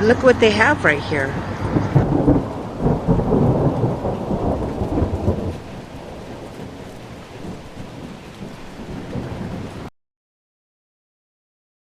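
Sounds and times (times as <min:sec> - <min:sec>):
low gusty rumbling: 0:00.0 - 0:09.9.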